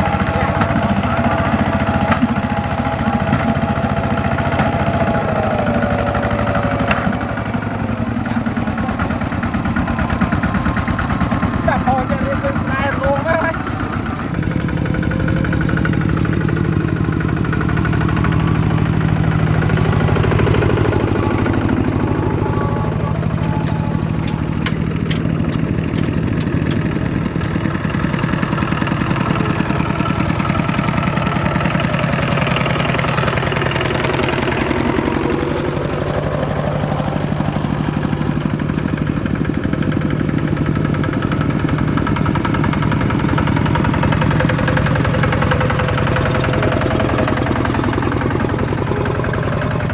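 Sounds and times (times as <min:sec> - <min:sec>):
tractor diesel engine clattering: 0:00.0 - 0:49.9.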